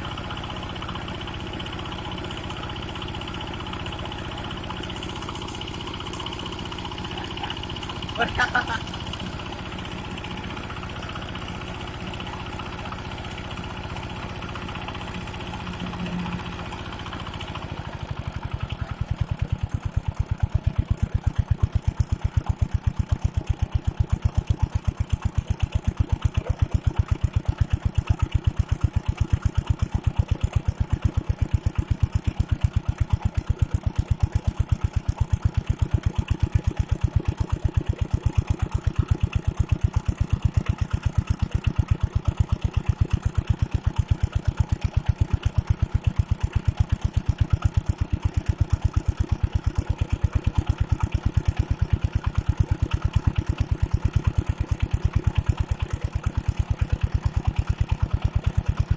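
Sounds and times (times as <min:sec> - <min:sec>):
water pump engine chugging: 0:00.0 - 0:58.9.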